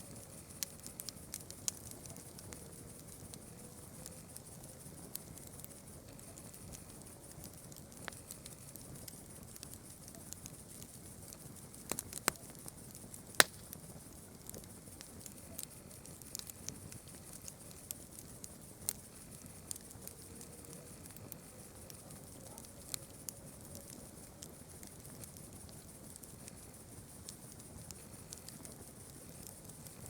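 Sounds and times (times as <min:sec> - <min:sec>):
campfire crackling and popping: 0:00.1 - 0:30.0.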